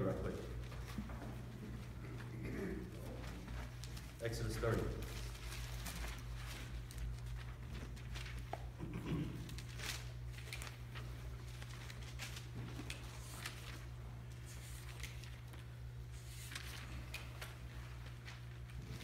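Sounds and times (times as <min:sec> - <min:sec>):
low electrical hum: 0:00.0 - 0:19.0
paper pages rustling: 0:00.6 - 0:08.8, 0:09.4 - 0:19.0.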